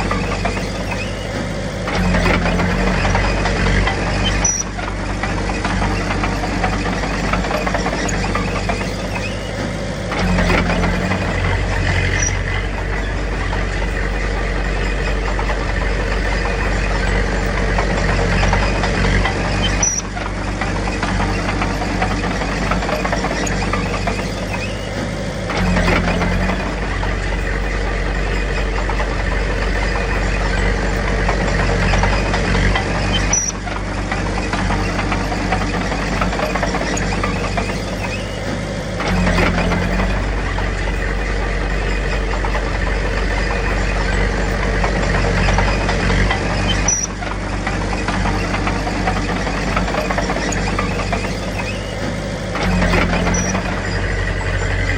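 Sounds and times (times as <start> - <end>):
bulldozer diesel engine working: 0.0 - 54.9.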